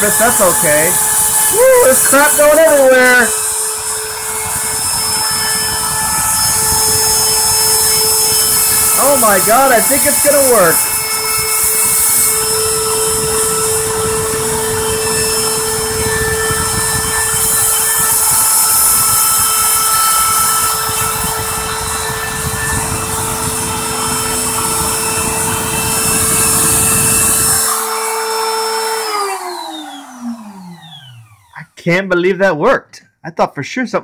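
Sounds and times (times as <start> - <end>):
router bit grinding foam: 0.0 - 31.8
router motor whine: 0.0 - 31.8.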